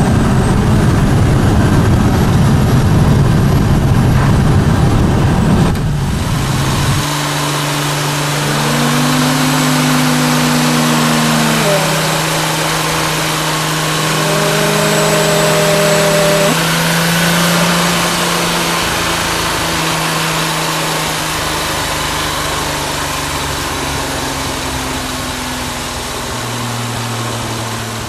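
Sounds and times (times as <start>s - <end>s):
car engine running: 0.0s - 28.0s
wind rush and road noise: 0.0s - 28.0s.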